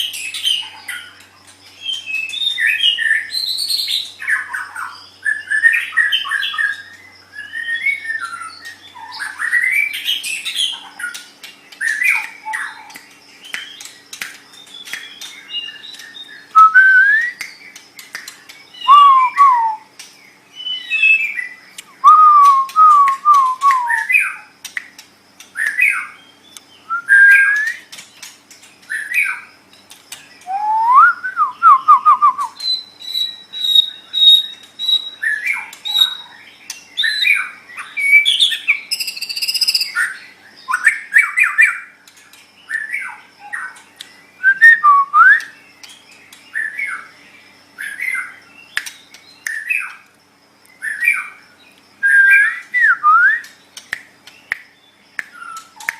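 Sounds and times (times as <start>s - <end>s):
songbird whistling song: 0.0s - 55.9s.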